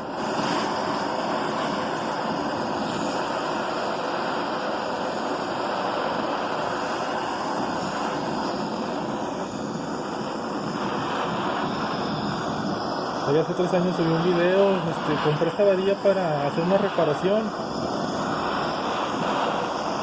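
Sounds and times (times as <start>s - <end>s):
butane torch flame rushing: 0.0s - 20.0s.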